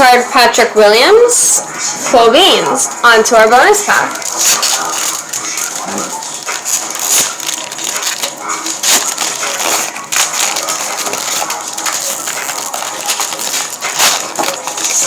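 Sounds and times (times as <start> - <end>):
plastic wrapper crinkling: 1.6 - 15.0.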